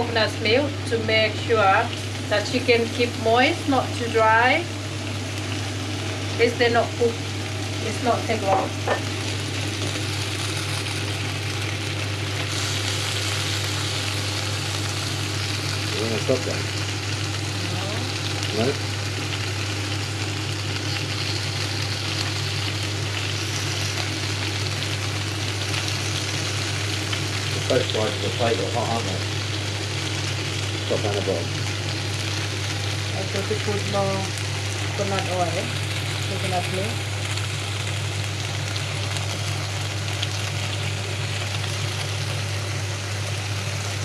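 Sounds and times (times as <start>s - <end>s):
chicken sizzling on grill: 0.0s - 44.0s
steady low hum: 0.0s - 44.0s.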